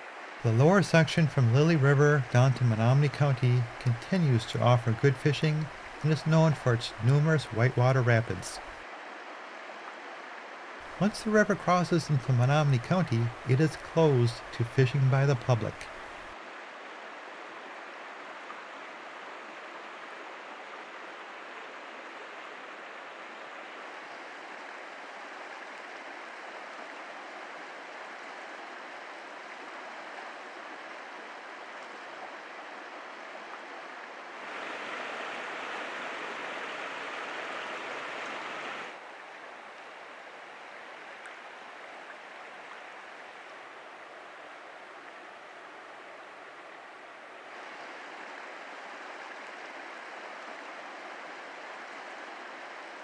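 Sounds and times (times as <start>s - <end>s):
louder brighter rush of water: 0.0s - 53.0s
river water rushing over rocks: 0.0s - 53.0s.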